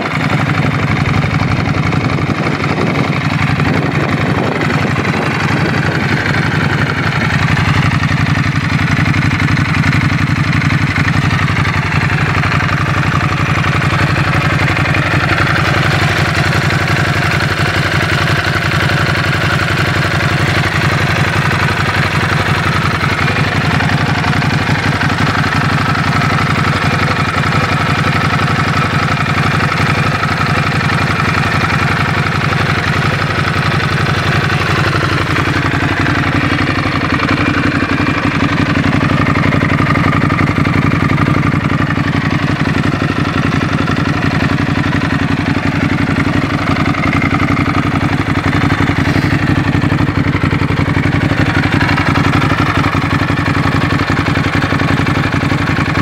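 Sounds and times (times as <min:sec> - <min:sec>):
motorcycle engine idling loudly: 0:00.0 - 0:56.0.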